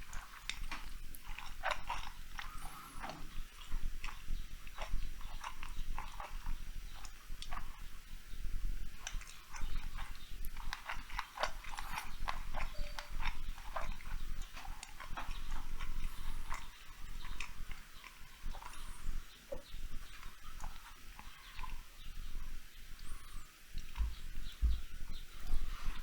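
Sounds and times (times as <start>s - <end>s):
wet chewing and mouth smacking: 0.0s - 26.0s.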